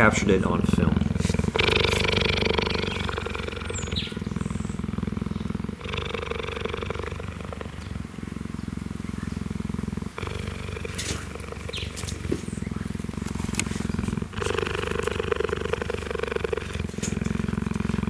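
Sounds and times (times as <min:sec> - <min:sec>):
cheetah purring: 0:00.0 - 0:18.0.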